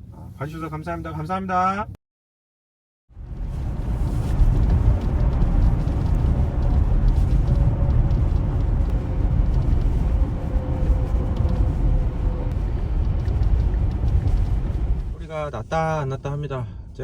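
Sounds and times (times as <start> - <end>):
road and tyre rumble in car: 3.1 - 17.0.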